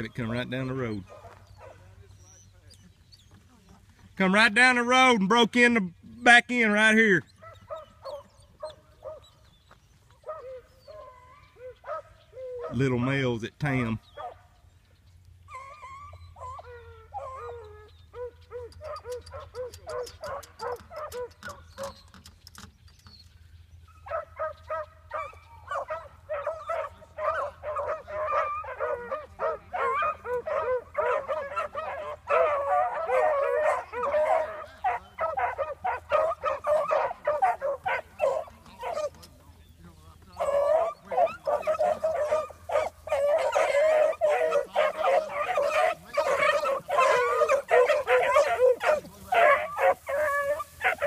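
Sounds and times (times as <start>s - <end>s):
dogs baying: 0.0s - 3.0s, 7.2s - 13.2s, 14.0s - 22.2s, 23.8s - 39.6s, 40.2s - 51.0s.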